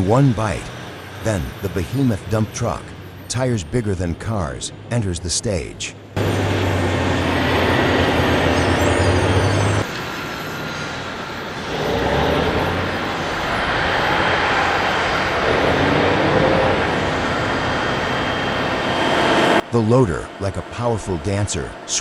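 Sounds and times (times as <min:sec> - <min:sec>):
diesel machine engine rumble: 0:00.0 - 0:22.0.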